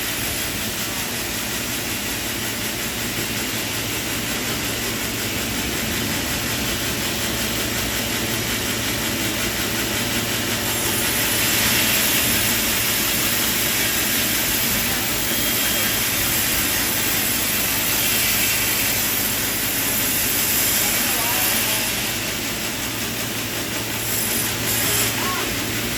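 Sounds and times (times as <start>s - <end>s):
sawmill machinery running: 0.0s - 25.9s.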